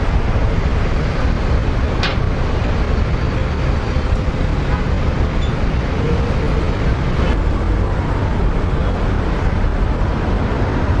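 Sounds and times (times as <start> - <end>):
heavy machinery diesel engines rumbling: 0.0 - 11.0.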